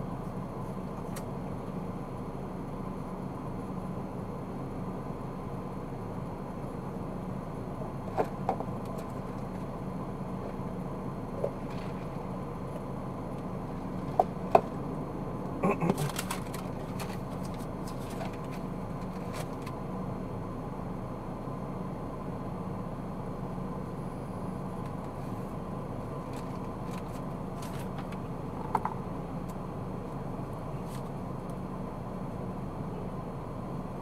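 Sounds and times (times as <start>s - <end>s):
car engine and tyre hum: 0.0s - 34.0s.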